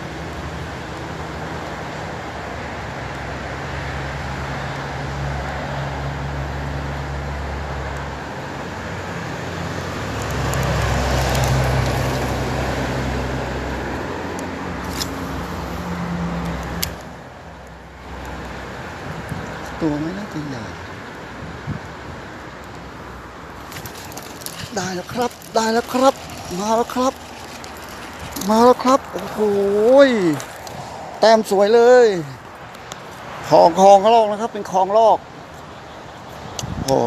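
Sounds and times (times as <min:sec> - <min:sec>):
passing vehicle engines humming: 0:00.0 - 0:37.0.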